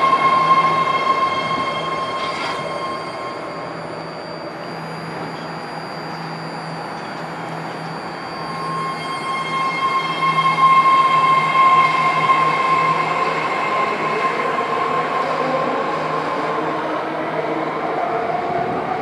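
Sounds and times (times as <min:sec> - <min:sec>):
train high-pitched whine: 0:00.0 - 0:19.0
train running noise: 0:00.0 - 0:19.0.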